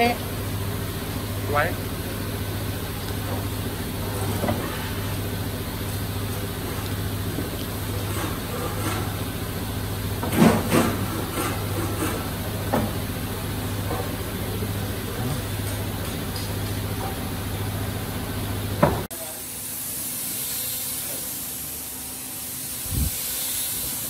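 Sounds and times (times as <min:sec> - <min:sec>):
shop machinery humming: 0:00.0 - 0:24.0.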